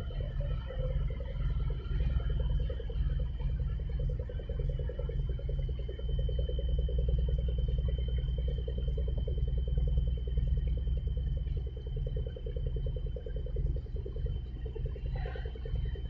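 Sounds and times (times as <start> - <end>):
ship engine throbbing rumble: 0.0 - 16.0.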